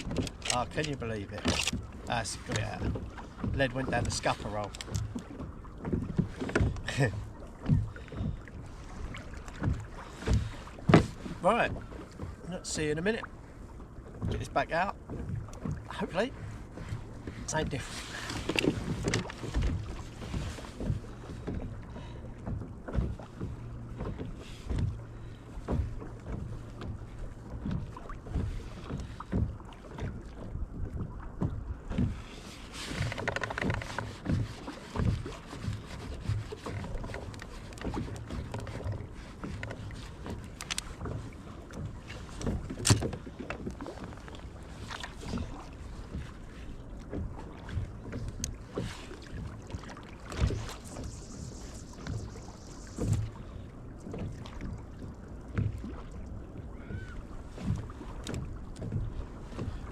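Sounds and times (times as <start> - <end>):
knocks and clicks on a kayak: 0.0 - 59.9.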